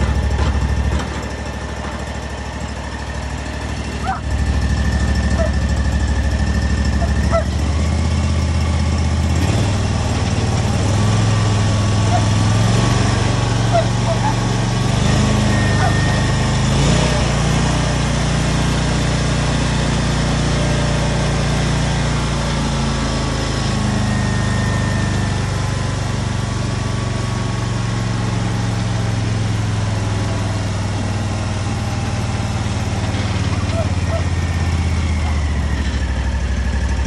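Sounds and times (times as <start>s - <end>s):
mower engine running: 0.0s - 37.0s.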